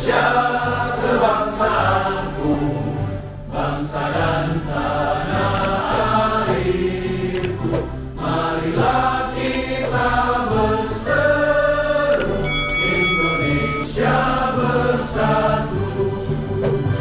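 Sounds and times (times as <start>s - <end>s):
group of people singing: 0.0s - 17.0s
music: 0.0s - 17.0s.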